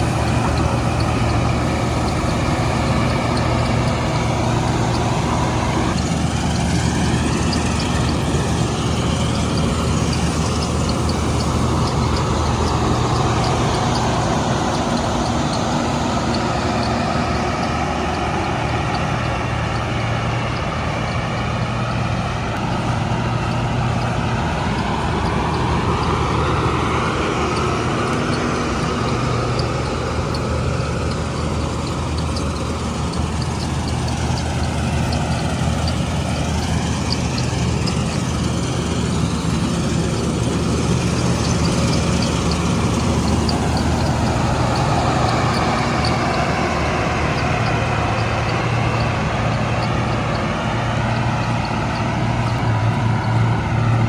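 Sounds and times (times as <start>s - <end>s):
combine harvester engine humming: 0.0s - 54.0s.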